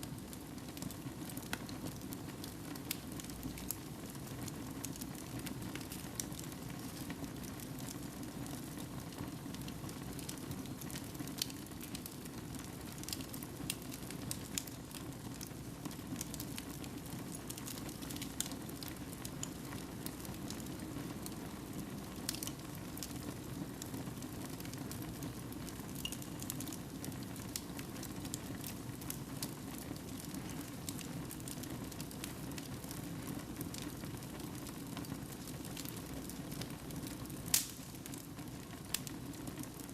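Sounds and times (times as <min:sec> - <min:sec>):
fire burning: 0:00.0 - 0:39.9
fire crackling and popping: 0:00.0 - 0:39.9.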